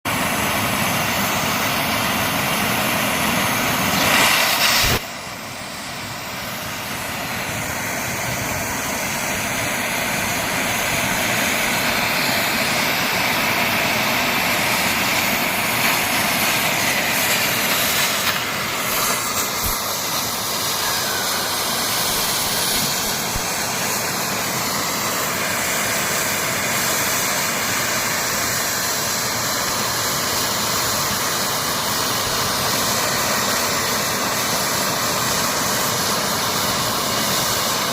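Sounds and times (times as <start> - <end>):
cutting torch jet hissing: 0.1 - 37.9.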